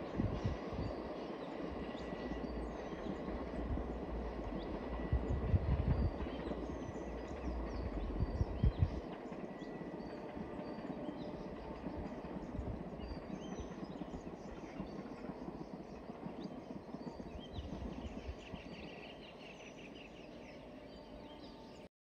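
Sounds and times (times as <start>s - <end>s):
distant train rumble: 0.0s - 21.9s.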